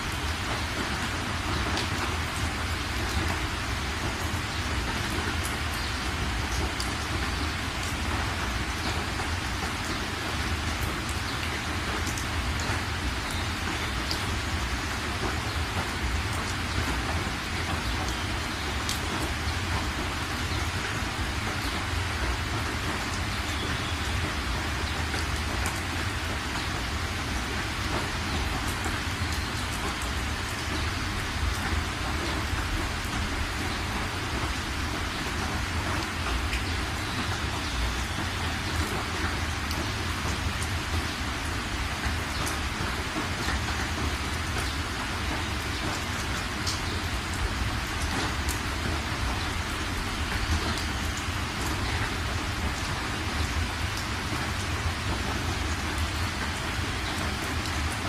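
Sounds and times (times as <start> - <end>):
heavy rain on car: 0.0 - 58.0.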